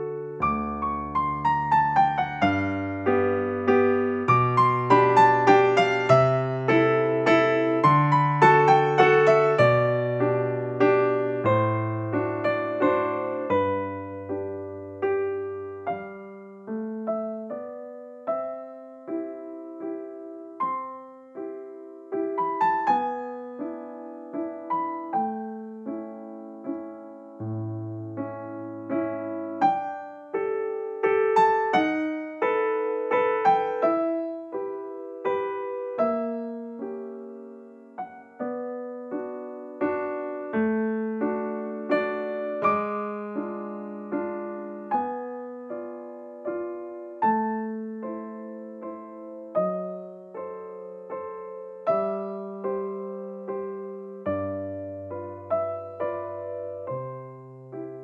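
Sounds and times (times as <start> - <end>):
piano-like keyboard melody: 0.0 - 58.0.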